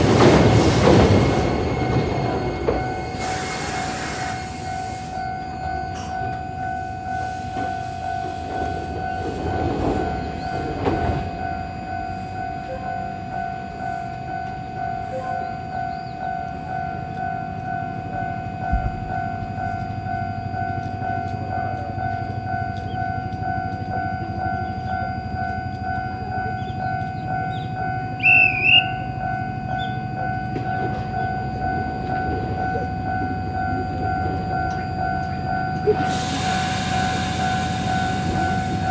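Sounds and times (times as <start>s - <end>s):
level-crossing alarm ringing: 0.0s - 38.9s
train rumble: 0.0s - 38.9s.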